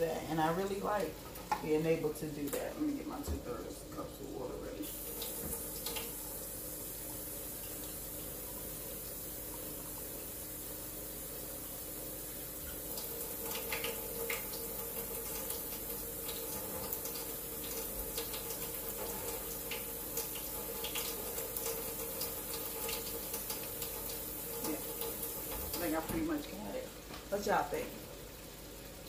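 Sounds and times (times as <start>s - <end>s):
kitchen tap running: 0.0s - 29.0s.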